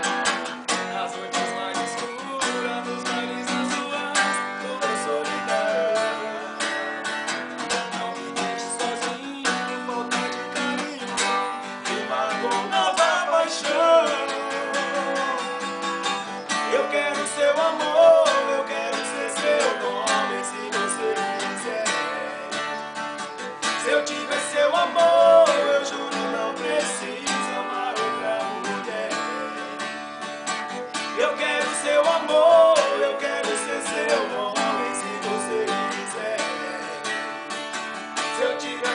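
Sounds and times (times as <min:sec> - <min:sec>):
acoustic guitar strumming chords: 0:00.0 - 0:38.9.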